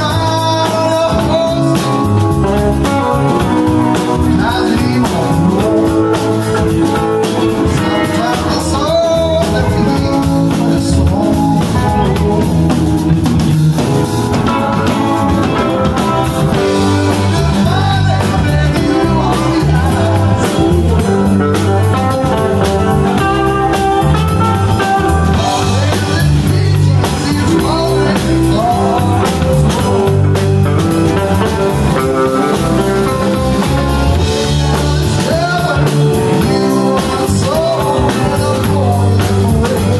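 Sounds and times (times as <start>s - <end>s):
person singing: 0.0s - 13.1s, 14.5s - 39.9s
live rock band playing: 0.0s - 39.9s.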